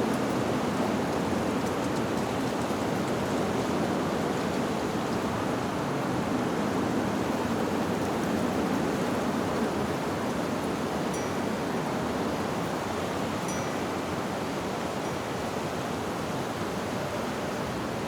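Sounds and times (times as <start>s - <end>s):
wind through leaves: 0.0s - 18.0s.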